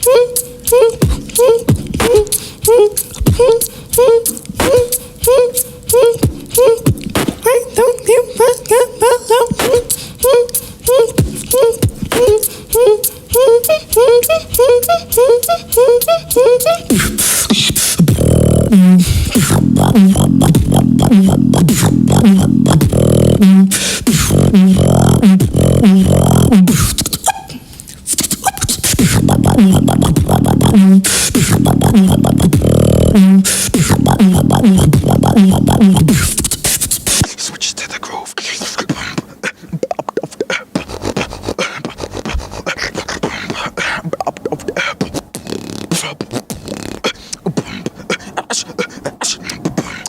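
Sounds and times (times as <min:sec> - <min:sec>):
person beatboxing: 0:00.0 - 0:50.0.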